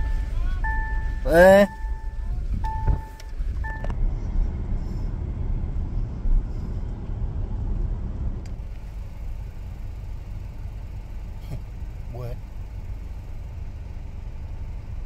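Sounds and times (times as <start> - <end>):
road rumble inside car: 0.0 - 15.0.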